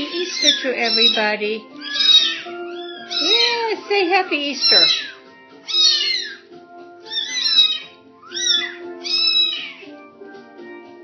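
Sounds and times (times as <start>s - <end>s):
kittens mewing: 0.0s - 10.0s
quiet background music: 0.0s - 11.0s.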